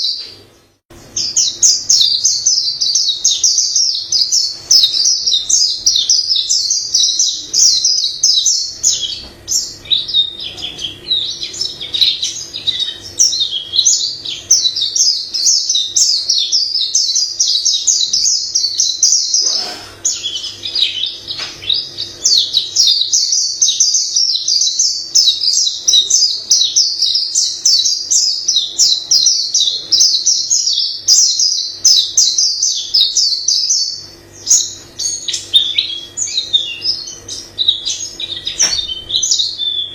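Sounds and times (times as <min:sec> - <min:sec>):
bird singing chirps and warbles: 0:00.0 - 0:39.9.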